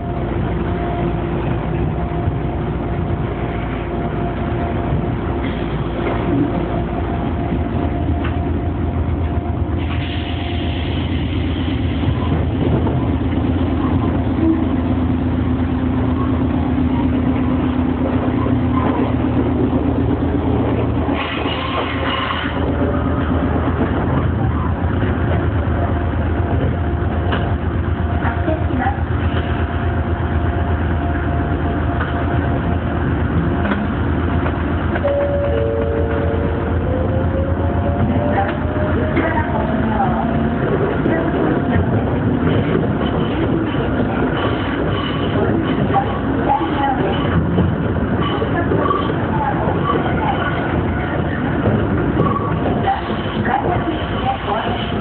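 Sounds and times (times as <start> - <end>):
electric train running hum: 0.0 - 55.0
standing train equipment hum: 0.0 - 55.0.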